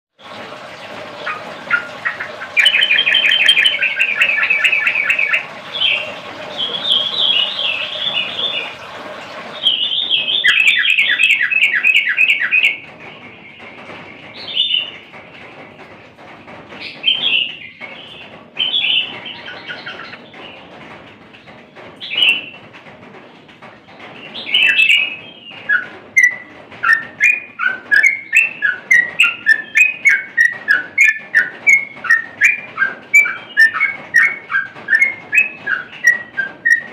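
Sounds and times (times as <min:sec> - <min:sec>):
bird singing trilled phrases: 0:01.2 - 0:08.8, 0:09.6 - 0:15.0, 0:16.8 - 0:20.6, 0:24.2 - 0:36.9.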